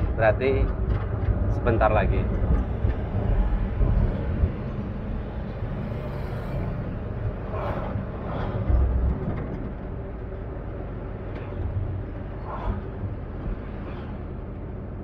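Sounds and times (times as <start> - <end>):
vehicle cabin engine rumble: 0.0 - 15.0.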